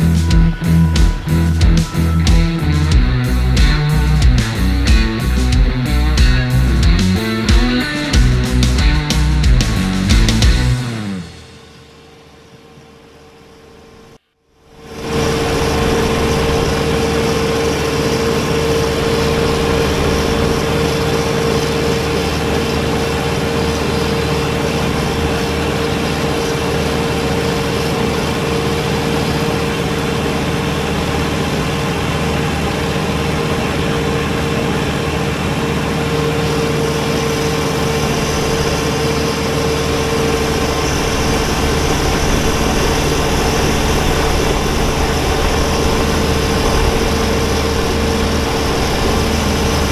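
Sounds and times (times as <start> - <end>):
tractor diesel engine running: 0.0 - 14.2, 14.8 - 49.9
snowblower whine: 0.0 - 49.9.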